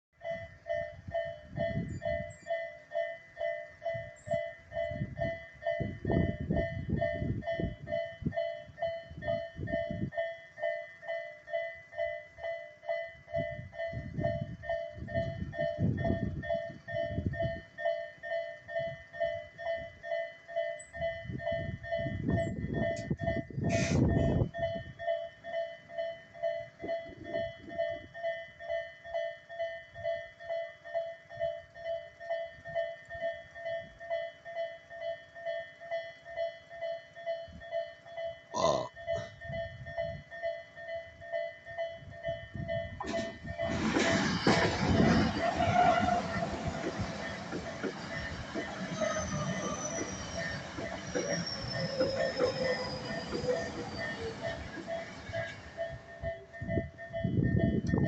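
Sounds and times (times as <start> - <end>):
train rumbling and wheel clatter: 0.2 - 30.4, 39.0 - 58.0
level-crossing warning bell ringing: 0.2 - 58.0.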